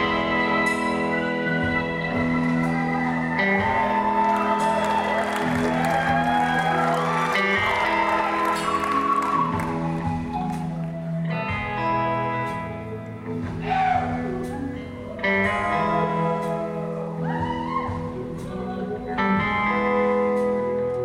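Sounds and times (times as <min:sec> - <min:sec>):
rock band playing instrumental: 0:00.0 - 0:21.0.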